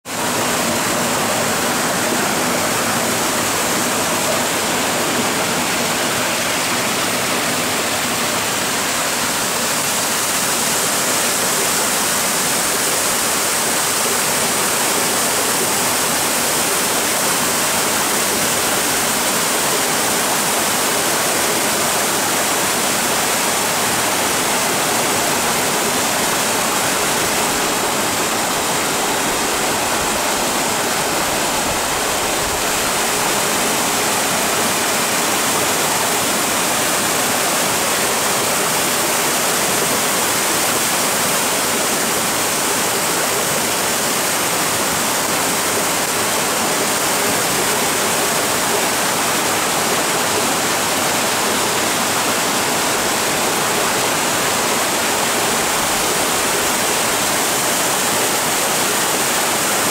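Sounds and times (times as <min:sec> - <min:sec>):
stream rushing over boulders: 0:00.0 - 0:59.9
waterfall pouring into pool: 0:00.2 - 0:59.9.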